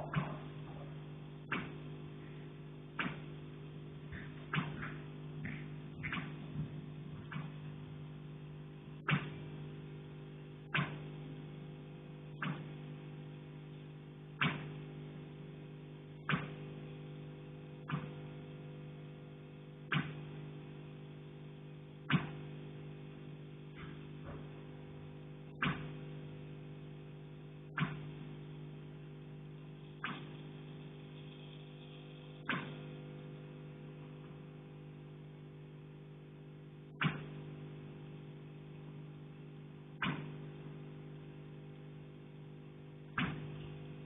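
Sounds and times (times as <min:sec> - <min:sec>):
steady electrical hum: 0:00.0 - 0:44.0.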